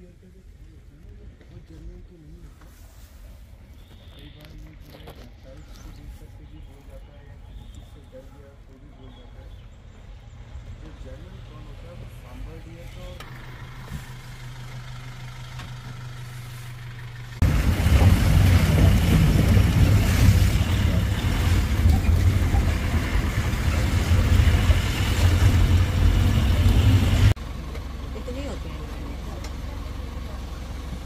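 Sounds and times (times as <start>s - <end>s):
moving vehicle rumble: 0.0s - 31.0s
truck engine hum: 0.0s - 31.0s.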